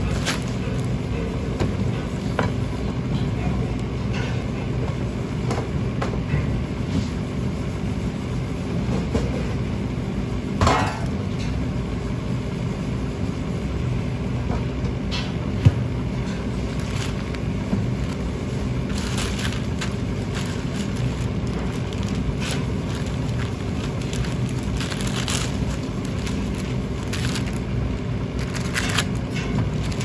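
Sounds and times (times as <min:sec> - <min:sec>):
kitchen machinery hum: 0:00.0 - 0:30.0.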